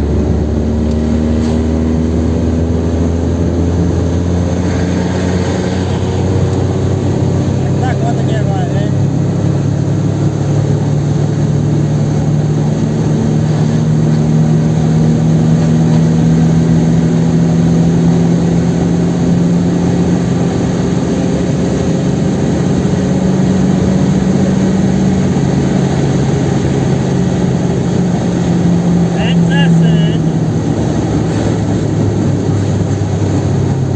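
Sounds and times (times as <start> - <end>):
car engine running steadily: 0.0 - 33.9
road noise: 0.0 - 33.9.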